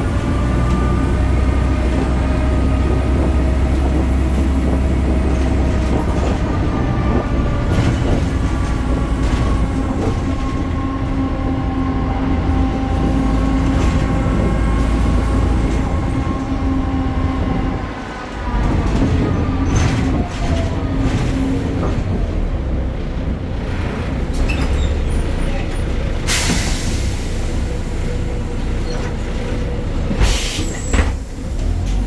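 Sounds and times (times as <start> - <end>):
bus diesel engine rumble: 0.0 - 32.0.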